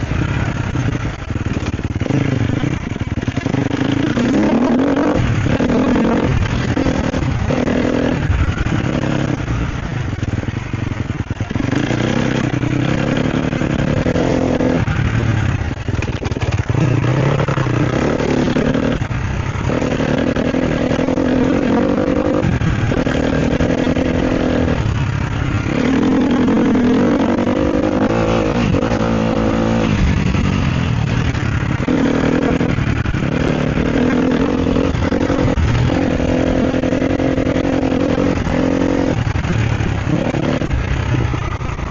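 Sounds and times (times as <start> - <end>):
bike rattling on rough ground: 0.0 - 41.9
motorcycle engine revving: 0.0 - 41.9.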